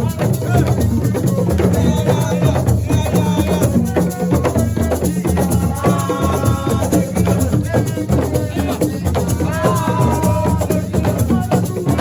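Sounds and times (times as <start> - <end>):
dense drumming: 0.0 - 12.0
shaker rattles: 0.0 - 12.0.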